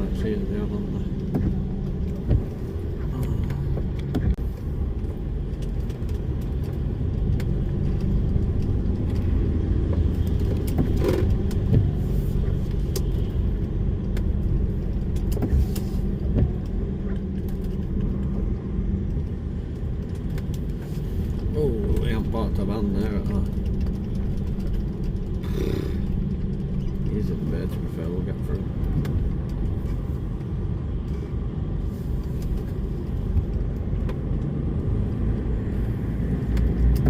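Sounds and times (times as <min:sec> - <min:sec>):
road rumble: 0:00.0 - 0:37.0.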